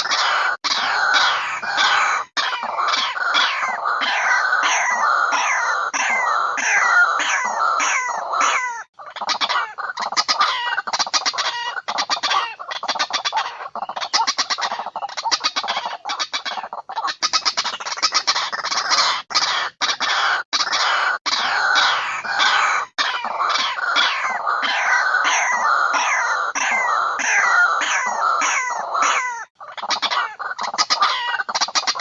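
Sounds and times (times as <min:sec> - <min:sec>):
waterhen calling with stuttering croaks: 0:00.0 - 0:32.0.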